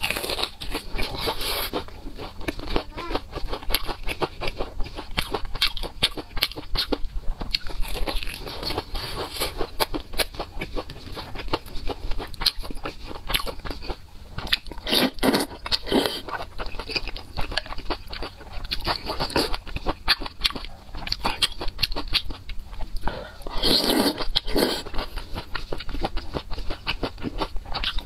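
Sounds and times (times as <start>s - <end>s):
chewing and biting soft food: 0.0s - 28.0s.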